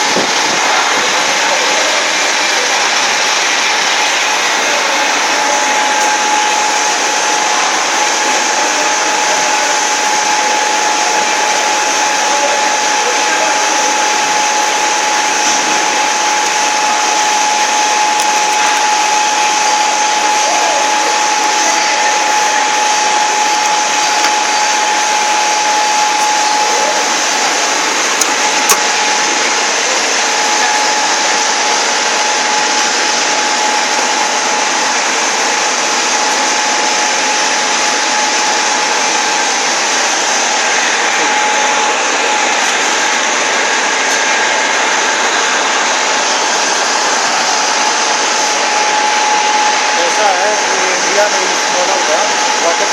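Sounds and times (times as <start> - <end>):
grinder motor whine: 0.0 - 52.9.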